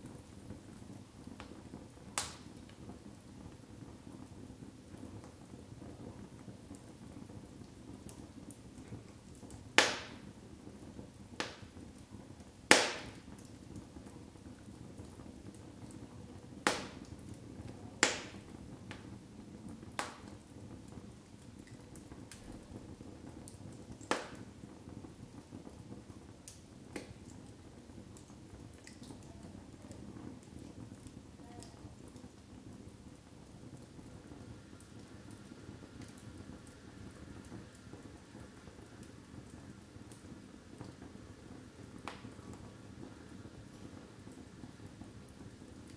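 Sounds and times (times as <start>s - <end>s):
fire crackles and pops: 0.0s - 45.9s
fire hissing: 7.9s - 27.3s, 27.9s - 45.9s.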